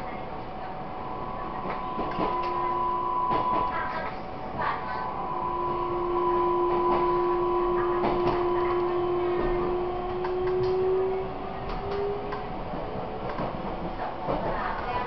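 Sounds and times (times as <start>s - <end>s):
wheels rumbling on rail: 0.0s - 15.0s
train motor whine: 0.4s - 13.4s.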